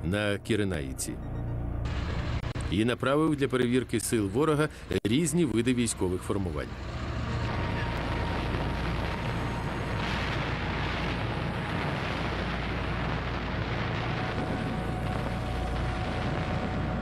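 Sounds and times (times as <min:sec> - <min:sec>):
rumble of artillery and explosions: 0:00.0 - 0:17.0.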